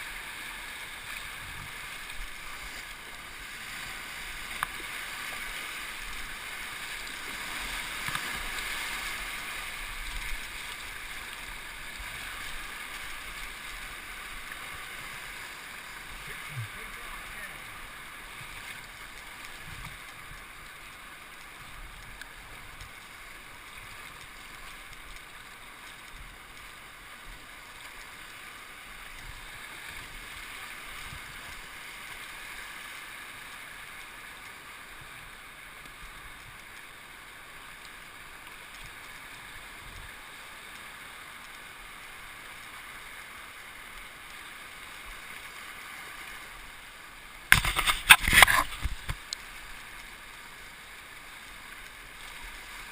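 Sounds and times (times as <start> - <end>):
river water rushing: 0.0 - 52.9.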